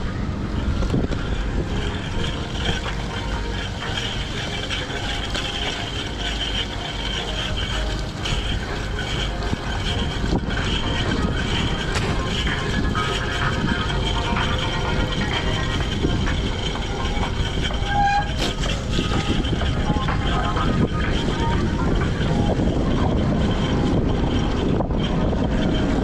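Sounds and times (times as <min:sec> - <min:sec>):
bike tyres rolling on asphalt: 0:00.0 - 0:26.0
wind on microphone: 0:00.0 - 0:26.0.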